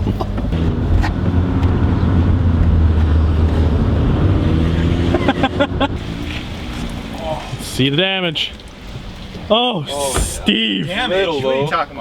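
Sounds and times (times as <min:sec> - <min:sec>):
truck engine rumbling: 0:00.0 - 0:10.5
road noise: 0:00.0 - 0:12.0.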